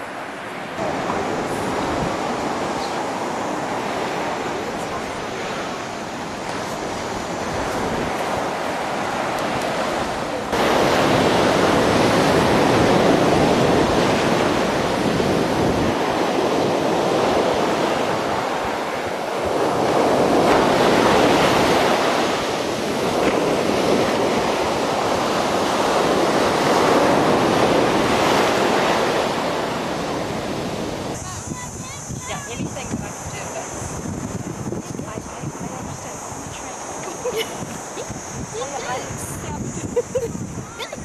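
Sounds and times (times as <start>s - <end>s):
ocean surf breaking: 0.0s - 41.0s
wind buffeting microphone: 0.0s - 41.0s.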